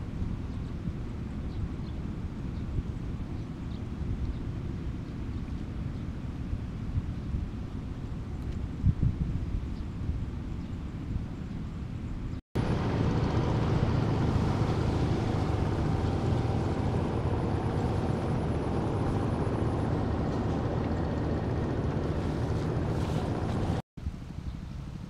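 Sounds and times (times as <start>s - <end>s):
low engine drone: 0.0s - 24.3s.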